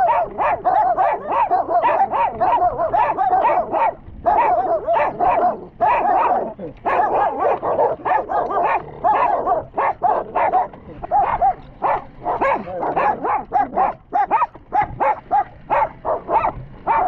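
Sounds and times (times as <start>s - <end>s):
dog yipping and barking: 0.0s - 17.0s.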